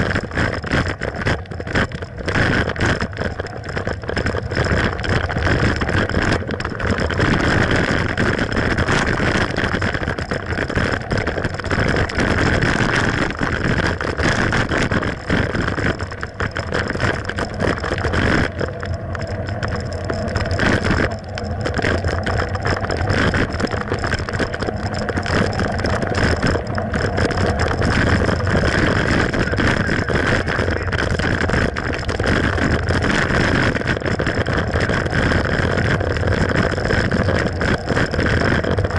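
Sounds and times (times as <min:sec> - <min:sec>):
bike tyres rumbling on trail: 0:00.0 - 0:38.9.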